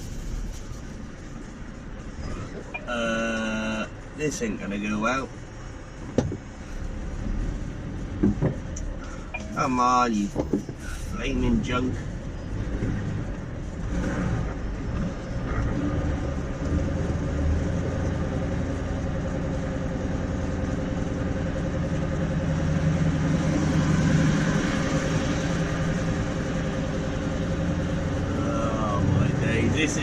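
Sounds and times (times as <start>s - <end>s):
diesel lorry engine labouring: 0.0s - 30.0s.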